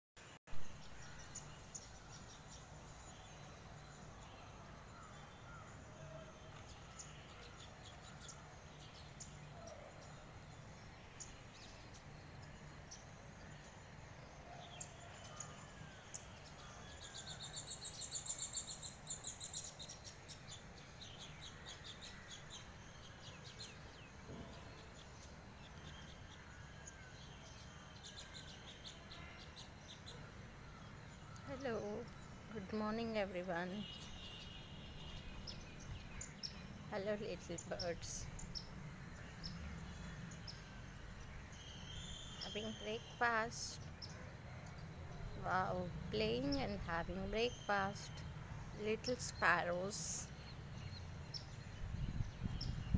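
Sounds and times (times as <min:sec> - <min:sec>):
sparrows chirping: 0:00.6 - 0:52.9.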